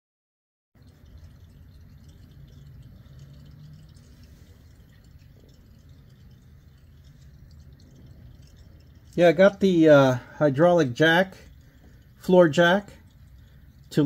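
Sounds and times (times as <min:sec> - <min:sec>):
oil trickling and dripping: 0:00.8 - 0:14.0
steady low hum: 0:00.8 - 0:14.0.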